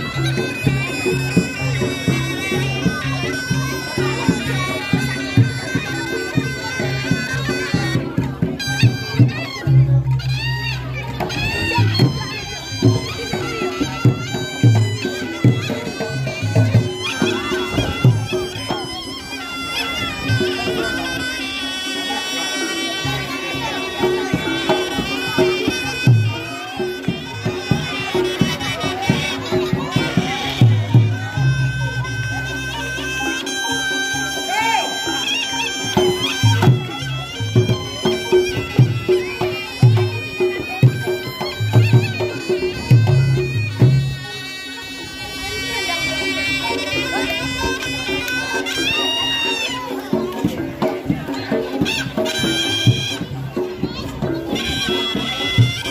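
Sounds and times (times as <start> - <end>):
low drum beats: 0.0 - 22.3, 23.0 - 55.9
shawm playing nasal melody: 0.0 - 55.9.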